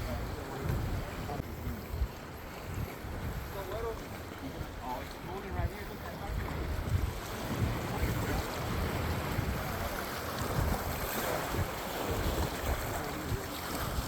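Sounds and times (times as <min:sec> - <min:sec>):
waves breaking on rocks: 0:00.0 - 0:14.0
wind buffeting microphone: 0:00.0 - 0:14.0.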